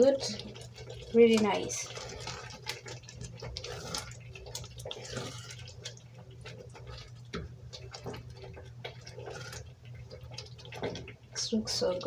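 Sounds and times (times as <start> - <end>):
stew bubbling on the fire: 0.0 - 12.0.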